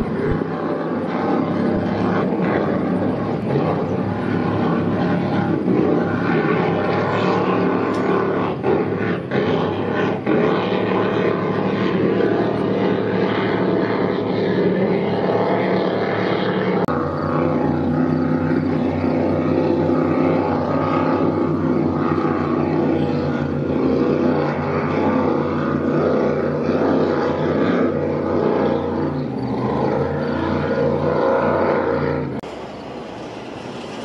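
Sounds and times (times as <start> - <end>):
powerboat engines droning: 0.0 - 34.0.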